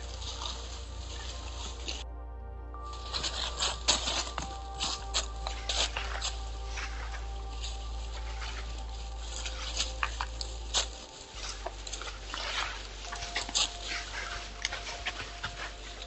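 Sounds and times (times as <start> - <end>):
deer stepping in dry leaves: 0.0 - 16.0.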